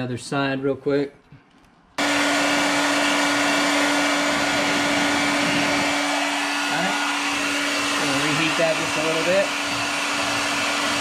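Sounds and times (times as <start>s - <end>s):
hair dryer blowing: 2.0s - 11.0s.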